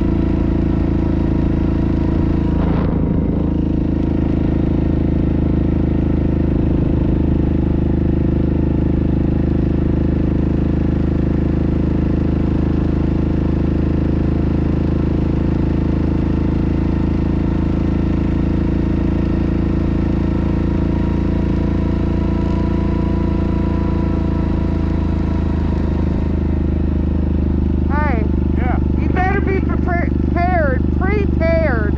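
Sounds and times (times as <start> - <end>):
atv engine cruising: 0.0 - 31.9.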